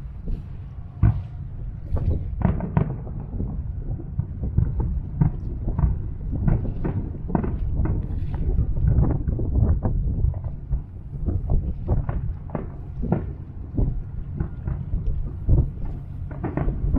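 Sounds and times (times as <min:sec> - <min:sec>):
distant fireworks bursting: 0:00.0 - 0:16.9.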